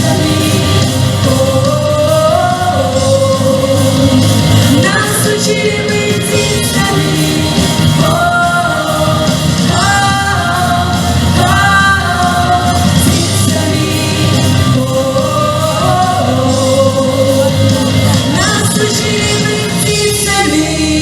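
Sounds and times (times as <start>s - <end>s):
backing music: 0.0s - 21.0s
person singing: 0.0s - 21.0s.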